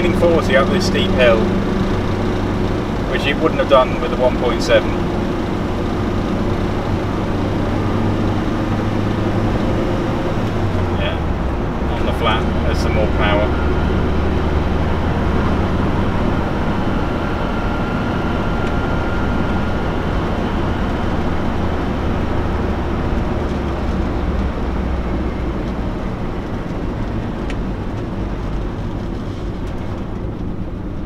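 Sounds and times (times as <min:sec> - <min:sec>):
van engine drone and road noise: 0:00.0 - 0:31.0.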